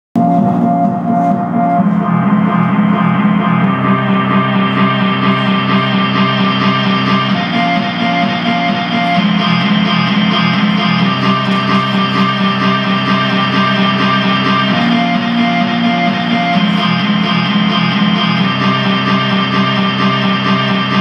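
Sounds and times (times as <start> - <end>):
synthesizer chords: 0.2 - 21.0.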